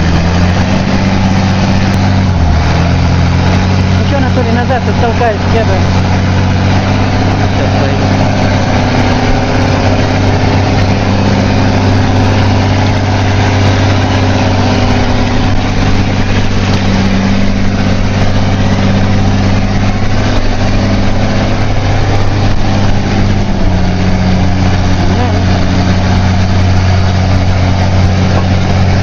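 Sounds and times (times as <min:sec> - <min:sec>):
truck engine droning: 0:00.0 - 0:29.0.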